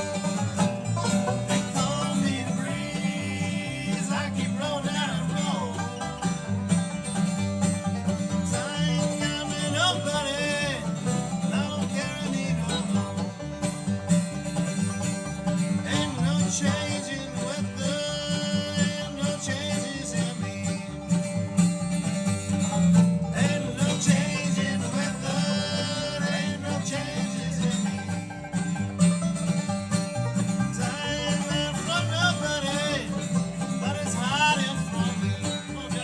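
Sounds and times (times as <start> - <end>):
bluegrass band playing: 0.0 - 36.0.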